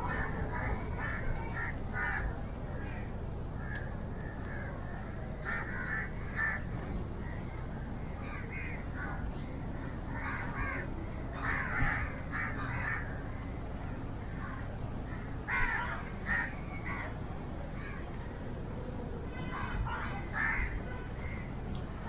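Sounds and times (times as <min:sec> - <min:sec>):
birds calling in trees: 0:00.0 - 0:18.5, 0:19.3 - 0:22.0
low outdoor rumble: 0:00.0 - 0:22.0.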